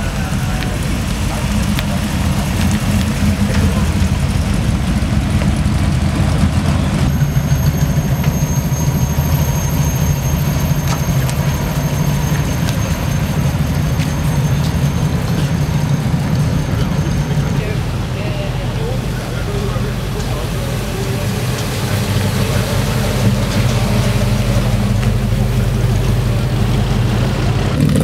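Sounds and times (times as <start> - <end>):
car engines driving past slowly: 0.0 - 28.0.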